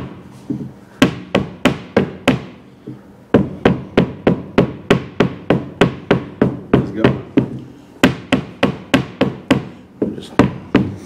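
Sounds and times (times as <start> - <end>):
mallet knocking on windshield frame: 1.0 - 2.6, 3.4 - 11.0.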